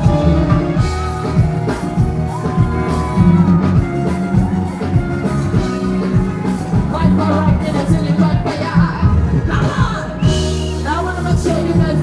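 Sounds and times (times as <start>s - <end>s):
heavy bass: 0.0s - 12.0s
steady drum beat: 0.0s - 12.0s.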